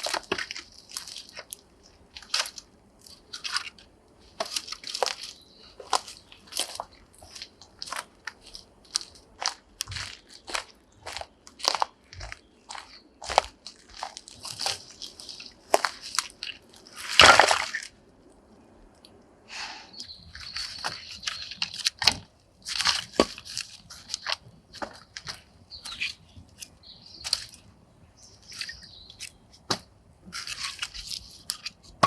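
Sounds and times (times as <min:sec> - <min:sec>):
dry wood crackling and snapping: 0:00.0 - 0:19.3, 0:20.0 - 0:32.0.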